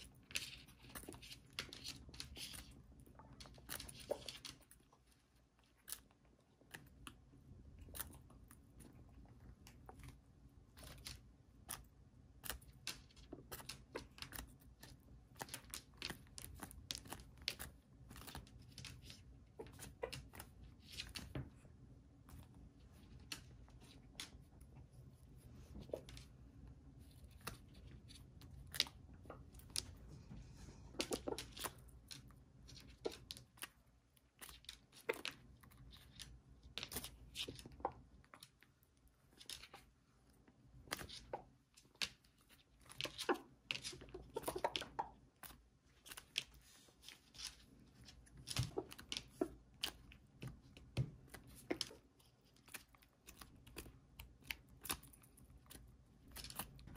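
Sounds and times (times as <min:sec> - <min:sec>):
beaks pecking cabbage leaves: 0:00.0 - 0:38.6, 0:40.6 - 0:56.9.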